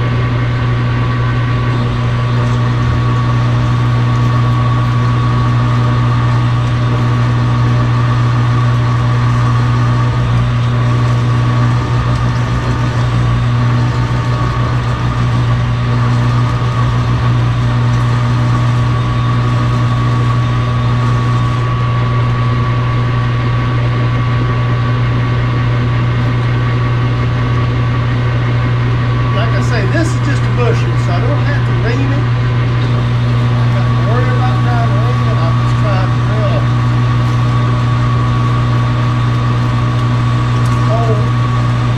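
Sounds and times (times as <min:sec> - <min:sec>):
lathe motor hum with high whine: 0:00.0 - 0:41.9.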